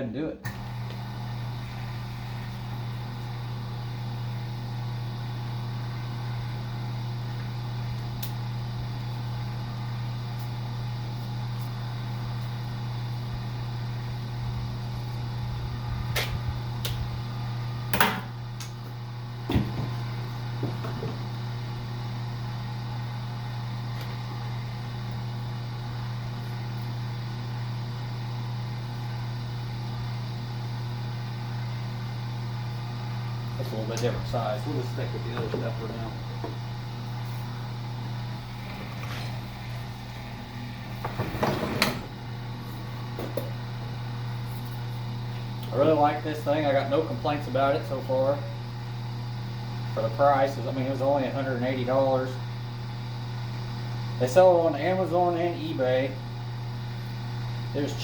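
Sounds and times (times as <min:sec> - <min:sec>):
wire stripping machine motor hum: 0:00.4 - 0:51.8.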